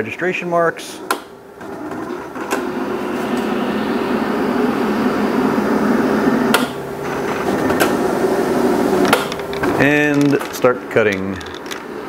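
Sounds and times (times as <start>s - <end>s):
motor whine: 1.4s - 12.0s.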